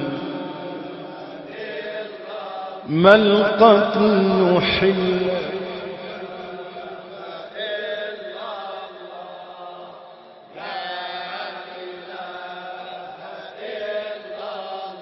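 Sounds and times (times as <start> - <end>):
men chanting: 0.0 - 9.9, 10.6 - 15.0.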